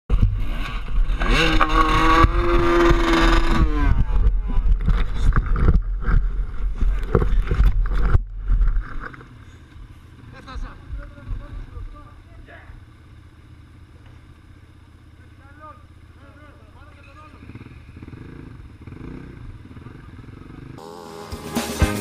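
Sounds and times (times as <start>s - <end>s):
dirt bike engines revving: 0.1s - 22.0s.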